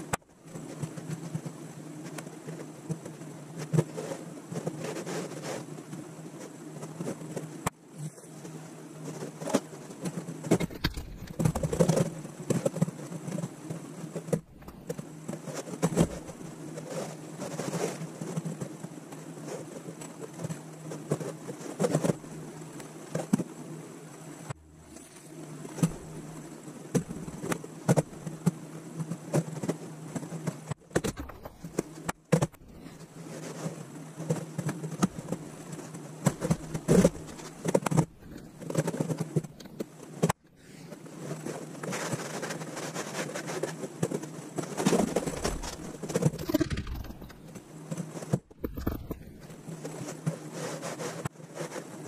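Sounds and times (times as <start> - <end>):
low buzzing hum: 0.0 - 50.6.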